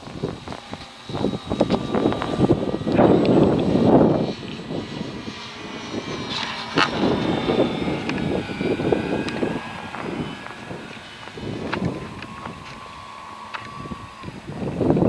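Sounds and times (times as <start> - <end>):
model airplane motor whine: 0.0 - 15.0
wind buffeting microphone: 0.0 - 15.0.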